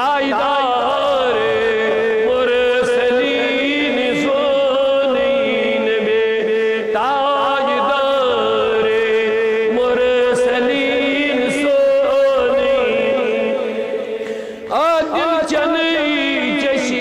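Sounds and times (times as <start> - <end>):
men chanting: 0.0 - 17.0.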